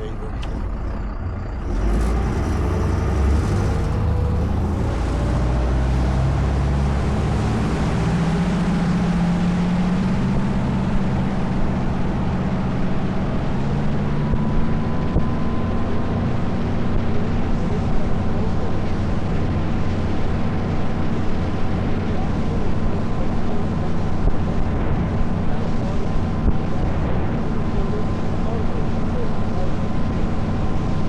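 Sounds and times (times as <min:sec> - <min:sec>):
motorboat engine: 0:00.0 - 0:31.0
rush of wind and water: 0:01.7 - 0:31.0.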